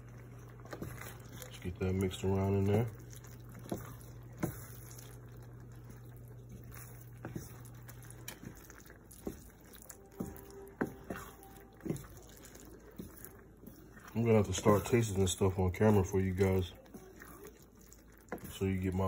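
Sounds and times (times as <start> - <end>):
low steady hum: 0.0 - 19.0
wet squishing of stirred food: 0.0 - 19.0.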